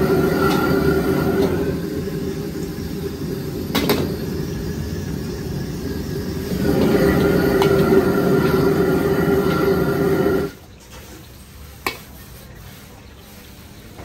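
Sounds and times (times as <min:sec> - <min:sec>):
gas wok burner roaring: 0:00.0 - 0:14.0
wok sizzling: 0:00.0 - 0:14.0.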